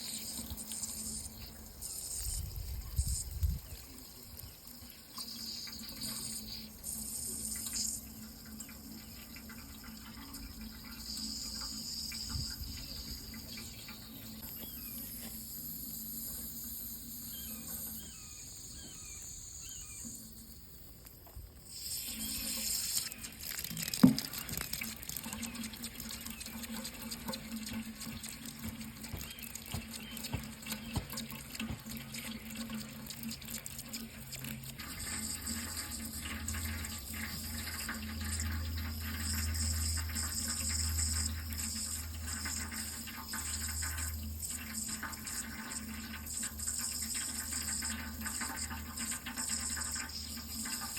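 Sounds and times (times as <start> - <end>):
tap water running into sink: 0.0 - 15.5, 21.2 - 50.9.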